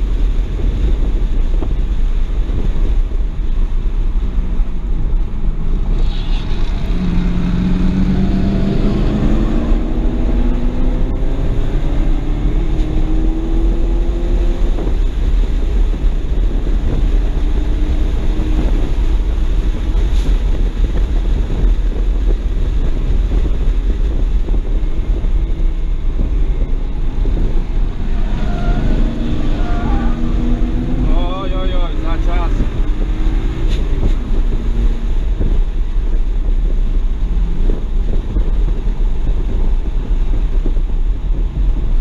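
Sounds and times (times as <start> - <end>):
car engine accelerating: 0.0 - 42.0
wind and road noise: 0.0 - 42.0.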